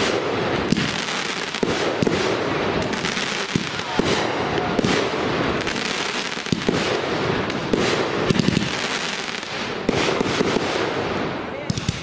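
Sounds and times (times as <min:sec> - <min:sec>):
fireworks bangs: 0:00.0 - 0:12.0
fireworks crackling and hissing: 0:00.0 - 0:12.0.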